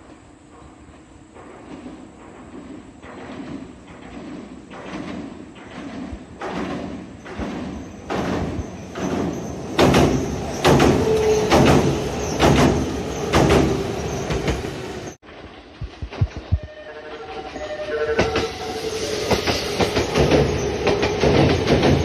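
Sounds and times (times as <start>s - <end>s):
train wheels clacking on rail joints: 0.0s - 16.7s, 18.1s - 22.0s
train rumble: 0.0s - 22.0s.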